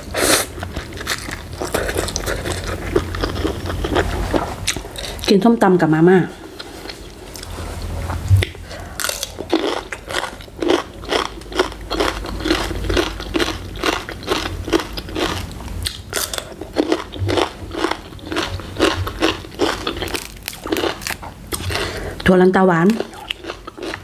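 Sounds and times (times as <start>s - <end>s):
crunchy chewing of cucumber: 0.0s - 5.3s, 6.4s - 22.2s, 22.8s - 24.0s.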